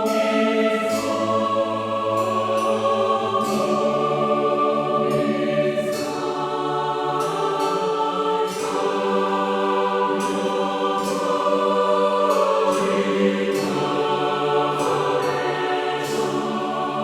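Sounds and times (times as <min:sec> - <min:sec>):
choir singing held chords: 0:00.0 - 0:17.0.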